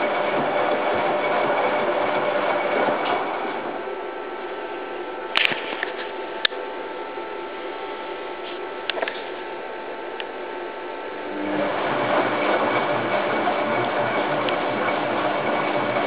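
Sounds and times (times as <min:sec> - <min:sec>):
washing machine churning: 0:00.0 - 0:16.0.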